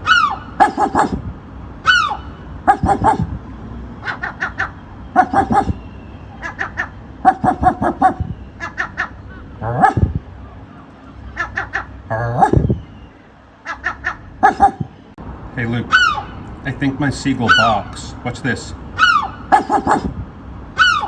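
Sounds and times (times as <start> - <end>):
seagull bark-like calls: 0.0 - 3.4, 4.0 - 15.1, 15.9 - 16.5, 17.4 - 17.8, 19.0 - 20.2, 20.8 - 21.0.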